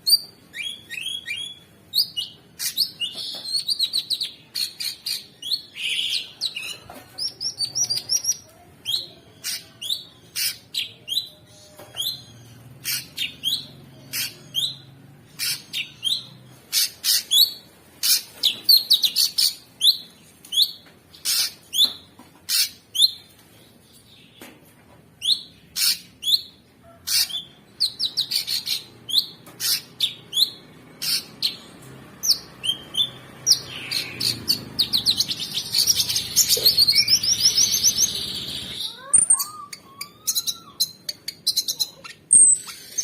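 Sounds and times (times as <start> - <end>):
songbird chirping and whistling: 0.0 - 23.3, 25.2 - 43.0.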